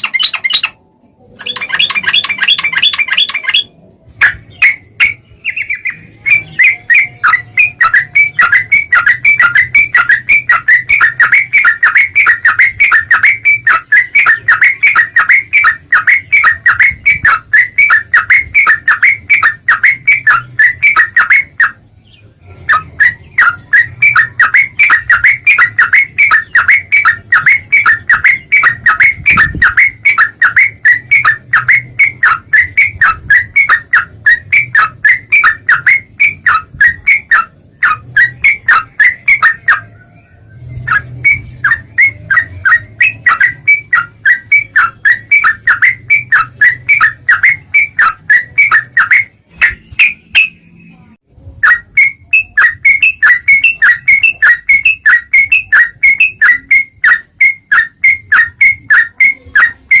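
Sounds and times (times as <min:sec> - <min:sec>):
bird chattering sharp notes: 0:00.0 - 0:21.8, 0:22.4 - 0:40.0, 0:40.7 - 0:50.8, 0:51.6 - 1:00.0.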